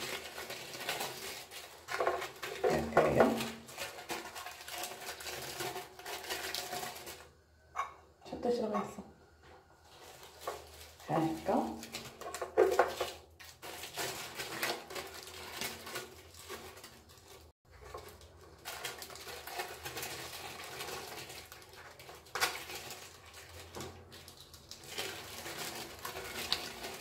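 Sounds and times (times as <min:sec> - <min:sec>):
pastry sheets rustling and crinkling: 0:00.0 - 0:07.3, 0:09.8 - 0:27.0.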